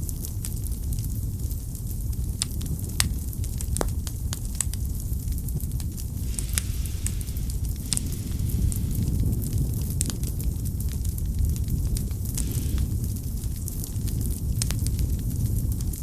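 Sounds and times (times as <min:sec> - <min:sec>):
fire flames rumbling: 0:00.0 - 0:16.0
firewood crackling and popping: 0:00.0 - 0:16.0.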